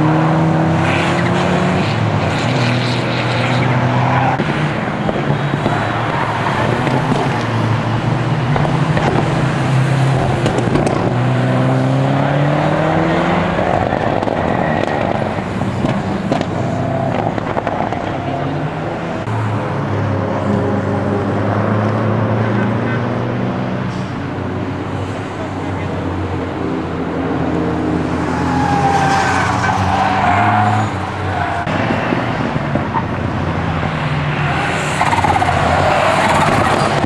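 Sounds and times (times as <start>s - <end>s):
racing car engines passing: 0.0s - 37.0s
tyre and road noise: 0.0s - 37.0s.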